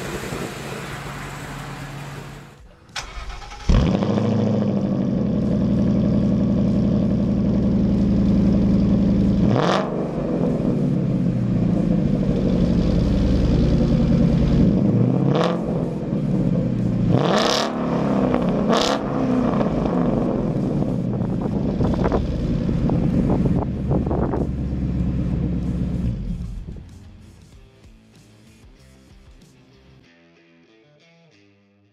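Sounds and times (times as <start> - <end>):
engine throttle blips: 0.0 - 27.0
car engine idling: 0.0 - 27.4.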